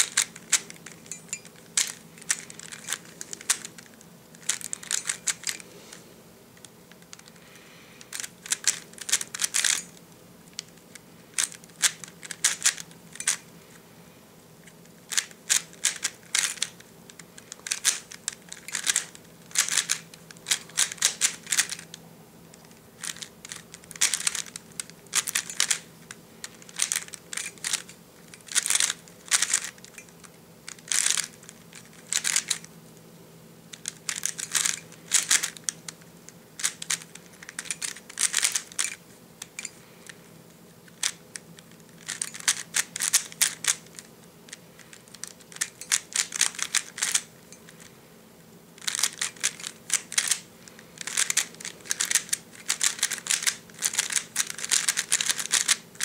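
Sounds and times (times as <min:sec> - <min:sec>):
plastic puzzle cube clicking: 0:00.0 - 0:05.6, 0:08.0 - 0:09.8, 0:10.6 - 0:13.4, 0:15.1 - 0:29.9, 0:30.7 - 0:32.7, 0:33.7 - 0:36.0, 0:36.6 - 0:39.7, 0:40.9 - 0:47.8, 0:48.8 - 0:50.4, 0:51.0 - 0:56.0.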